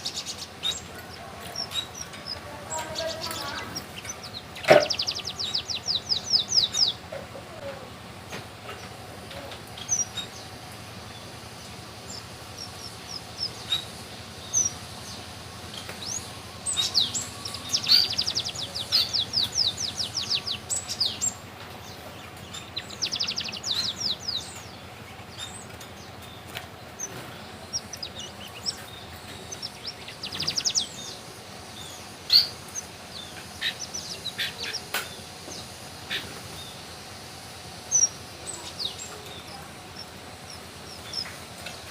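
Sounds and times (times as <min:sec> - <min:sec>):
finch singing trills: 0:00.0 - 0:41.9.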